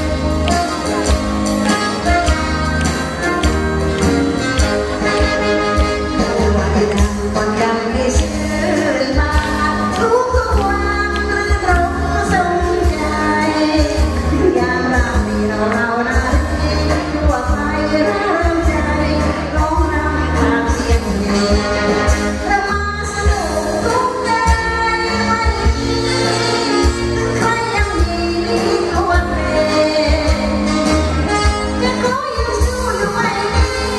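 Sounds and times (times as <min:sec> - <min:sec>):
live band bass and drums: 0:00.0 - 0:33.9
woman singing into microphone: 0:00.0 - 0:33.9.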